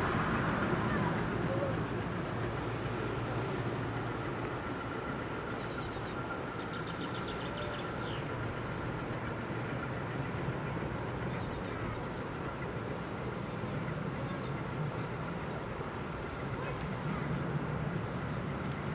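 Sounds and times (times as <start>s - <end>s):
boat engine drone: 0.0s - 18.9s
faint steady whine: 0.0s - 18.9s.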